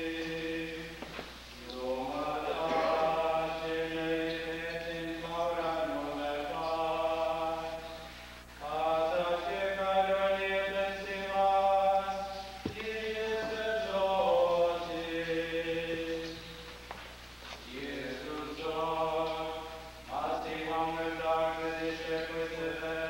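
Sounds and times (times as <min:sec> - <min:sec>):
unaccompanied chanted singing: 0:00.0 - 0:16.8, 0:17.7 - 0:23.0.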